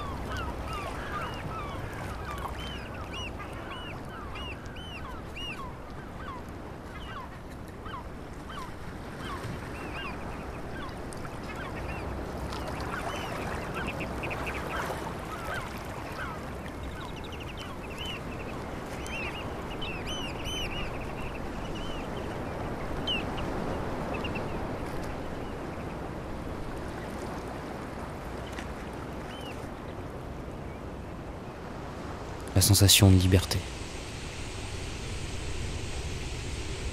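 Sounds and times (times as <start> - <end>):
shorebirds calling: 0.0 - 34.4
small waves lapping: 0.0 - 36.9.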